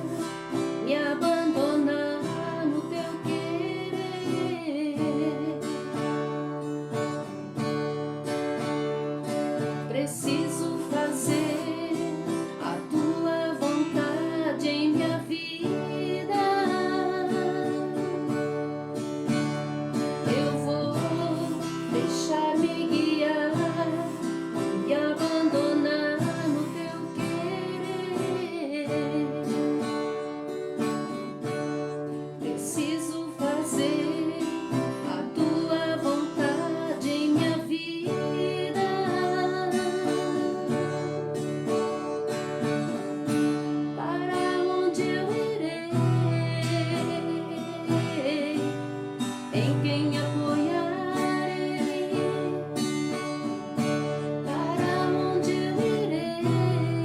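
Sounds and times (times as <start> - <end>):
person singing: 0.0 - 6.2, 9.6 - 18.9, 20.1 - 30.0, 32.2 - 41.5, 43.9 - 57.0
acoustic guitar strumming: 0.0 - 57.0.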